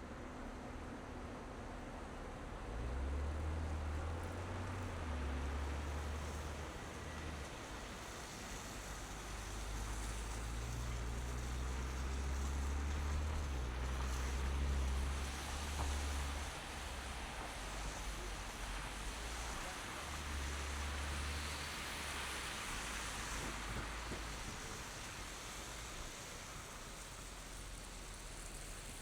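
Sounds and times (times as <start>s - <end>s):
car engine rumble: 0.0s - 29.0s
tyre and road hiss: 2.7s - 29.0s.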